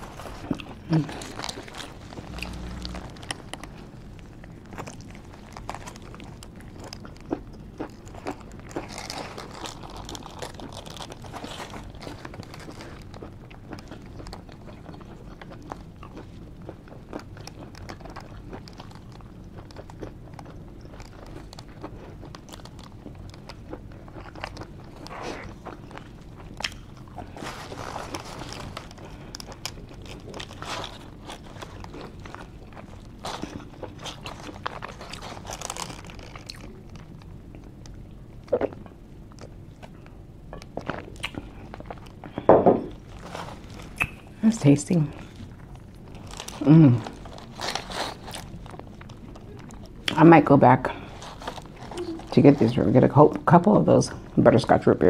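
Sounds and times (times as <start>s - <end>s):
person chewing food: 0.0s - 50.2s, 50.9s - 52.6s.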